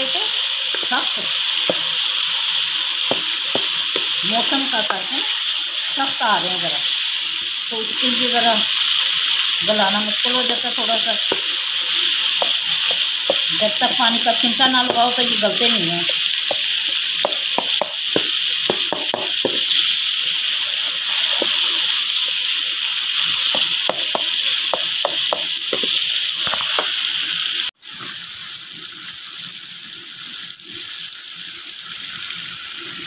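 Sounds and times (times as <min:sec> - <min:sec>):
food sizzling in oil: 0:00.0 - 0:33.0.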